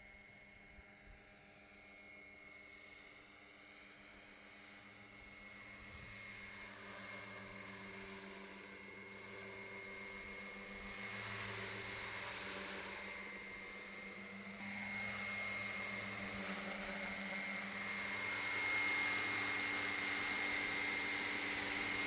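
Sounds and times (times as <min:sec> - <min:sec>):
helicopter rotor drone: 0:00.0 - 0:22.0.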